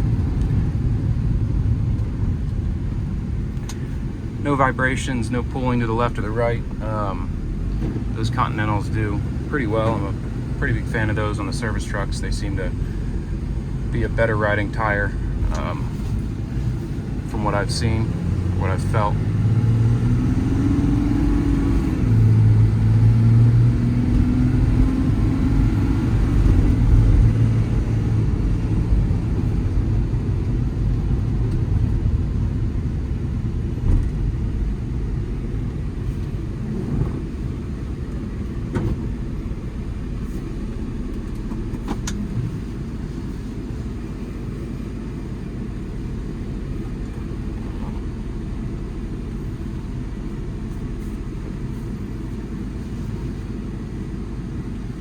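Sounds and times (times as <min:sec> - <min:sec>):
diesel truck engine droning: 0:00.0 - 0:55.0
road noise: 0:00.0 - 0:55.0.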